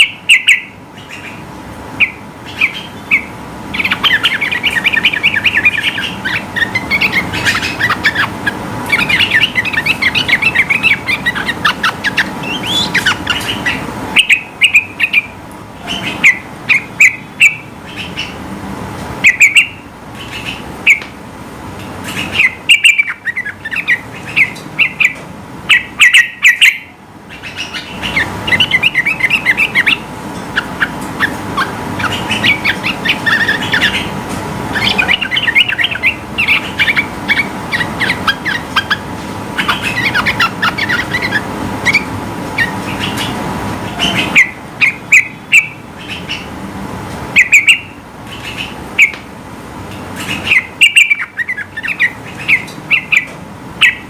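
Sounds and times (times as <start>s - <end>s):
bird singing bubbling phrases: 0.0s - 1.4s, 2.0s - 18.4s, 22.1s - 39.0s, 39.6s - 46.5s, 50.2s - 54.0s.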